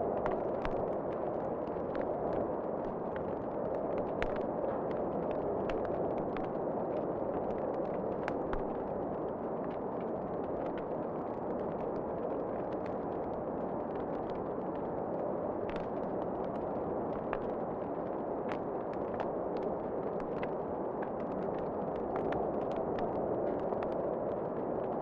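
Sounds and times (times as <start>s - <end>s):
rush of flame and wind: 0.0s - 25.0s.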